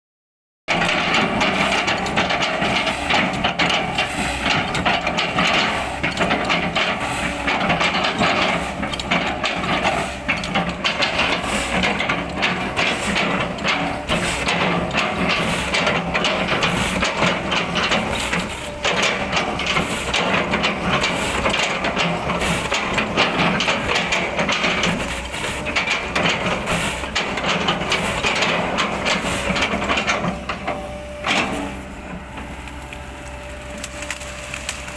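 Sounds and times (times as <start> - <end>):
excavator engine under load: 0.7 - 34.9.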